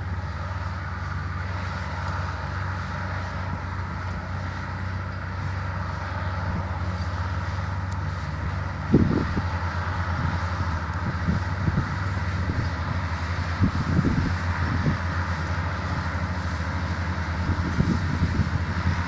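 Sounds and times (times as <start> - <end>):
tractor diesel engines droning: 0.0 - 19.0.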